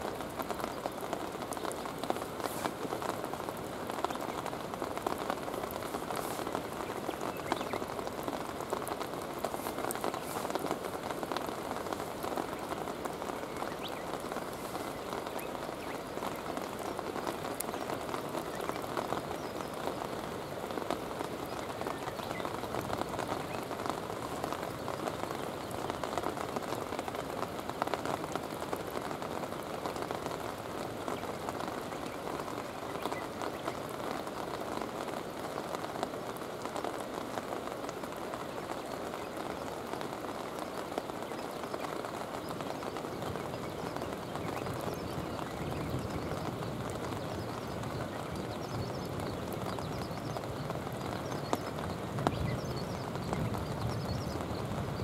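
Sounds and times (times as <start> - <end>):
steady rain on stones and water: 0.0 - 55.0.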